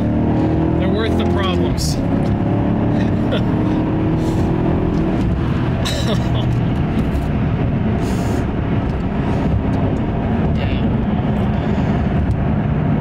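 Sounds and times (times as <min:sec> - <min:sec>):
car engine cruising: 0:00.0 - 0:13.0
road and tyre noise: 0:00.0 - 0:13.0.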